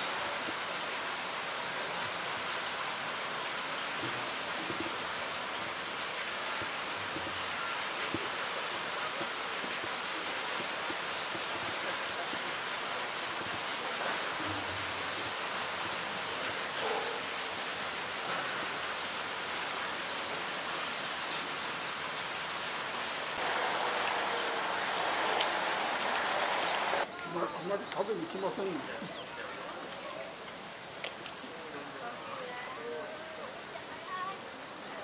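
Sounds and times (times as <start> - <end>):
cicadas buzzing: 0.0 - 35.0
rushing hiss: 0.0 - 35.0.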